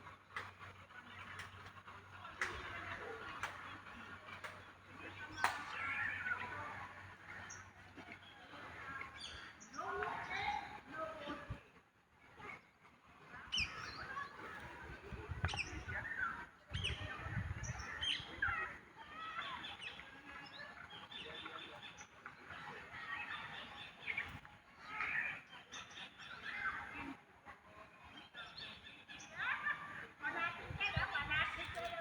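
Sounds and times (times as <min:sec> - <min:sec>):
birds chirping: 0:00.2 - 0:11.7, 0:12.3 - 0:27.2.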